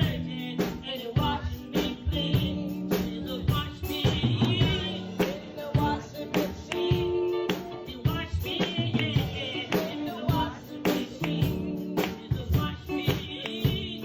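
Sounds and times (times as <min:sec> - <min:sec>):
gospel singing with vibrato: 0:00.0 - 0:14.0
steady drum beat: 0:00.0 - 0:14.0.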